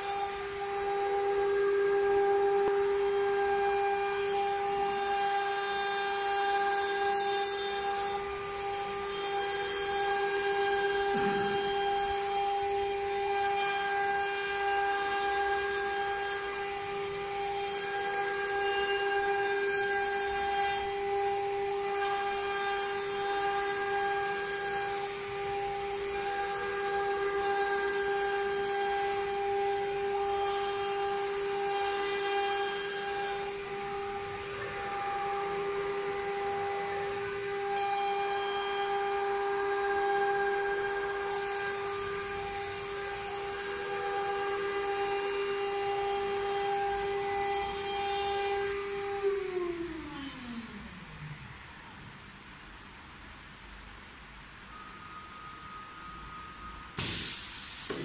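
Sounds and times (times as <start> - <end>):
bit rasping through wood: 0.0 - 49.8
router spindle whining: 0.0 - 53.0.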